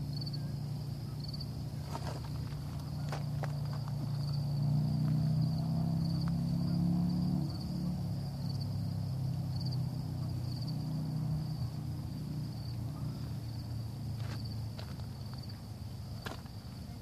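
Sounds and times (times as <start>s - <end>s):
insects chirping: 0.0s - 17.0s
low engine-like hum: 0.0s - 17.0s.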